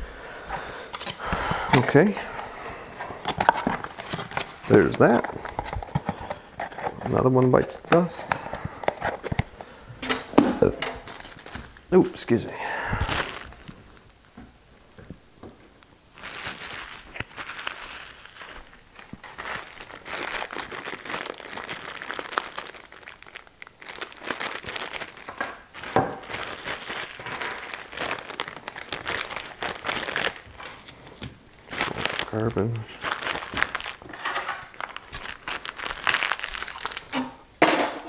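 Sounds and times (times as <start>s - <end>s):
plastic packaging crinkling: 3.0s - 9.6s, 11.0s - 14.1s, 15.8s - 37.4s.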